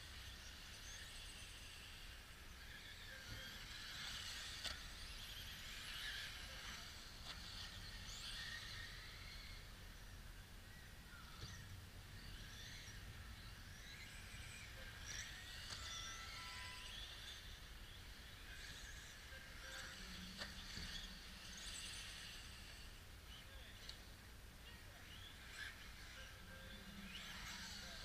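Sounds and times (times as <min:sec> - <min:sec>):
distant rc car motors whining: 0:00.0 - 0:28.0.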